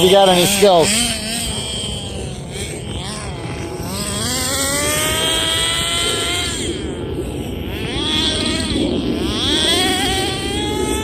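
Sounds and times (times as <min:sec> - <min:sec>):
rc car engine revving: 0:00.0 - 0:11.0.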